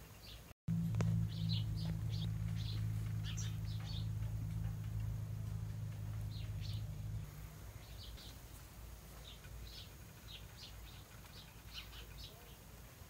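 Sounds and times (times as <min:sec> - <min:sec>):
small bird chirping: 0:00.2 - 0:08.4, 0:09.1 - 0:12.7
low steady hum: 0:00.7 - 0:11.2.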